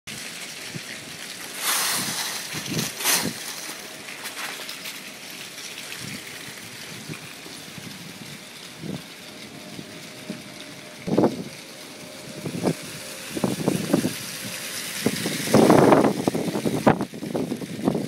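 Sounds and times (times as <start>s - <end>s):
dry leaves rustling: 0.1s - 18.0s
wind blowing: 0.6s - 18.0s.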